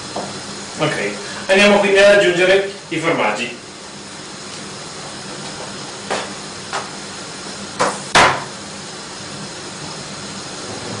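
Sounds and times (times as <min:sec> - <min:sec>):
pan hissing: 0:00.0 - 0:11.0.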